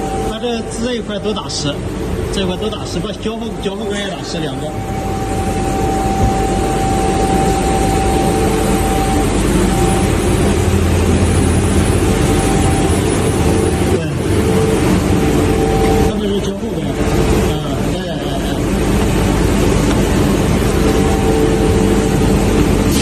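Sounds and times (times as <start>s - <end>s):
machine whining and humming: 0.0s - 23.0s.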